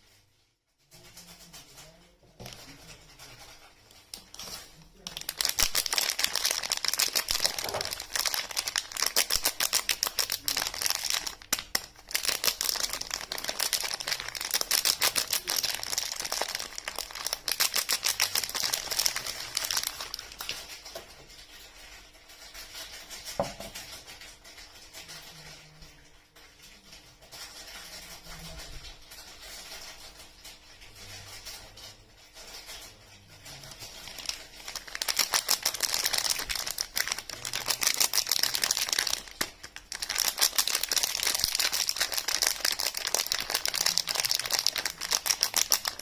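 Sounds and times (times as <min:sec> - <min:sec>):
wrapper crinkling: 0:01.2 - 0:46.0.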